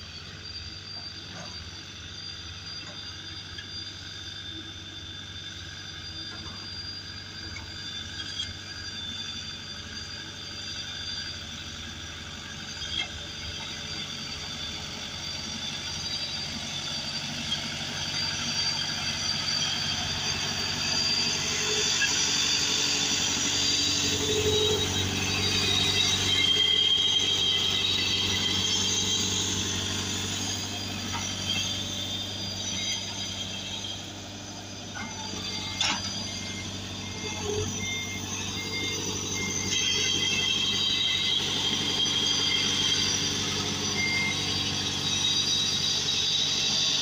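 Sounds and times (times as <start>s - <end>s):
high squealing and whining: 0.0s - 47.0s
road roller diesel engine: 0.0s - 47.0s.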